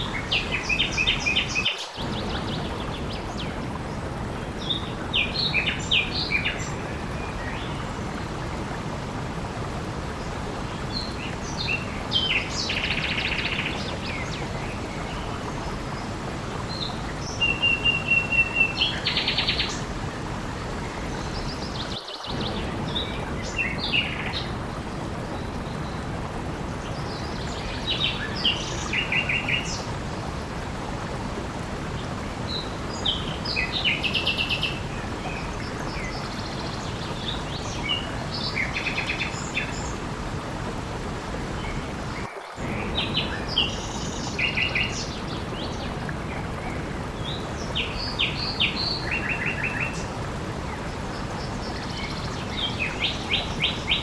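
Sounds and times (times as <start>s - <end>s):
flowing water rushing: 0.0s - 54.0s
songbirds chirping: 0.0s - 54.0s.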